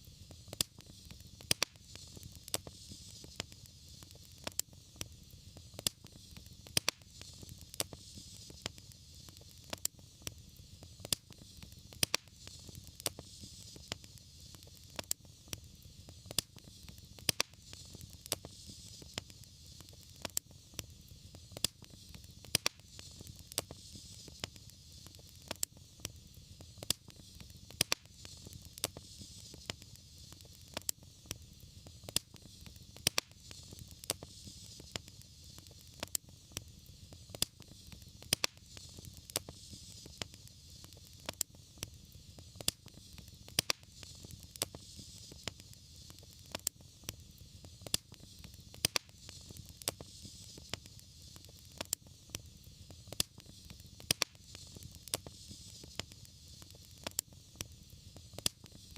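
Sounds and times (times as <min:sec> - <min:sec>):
soft hiss: 0:00.0 - 0:58.9
wood fire crackling and popping: 0:00.0 - 0:58.9.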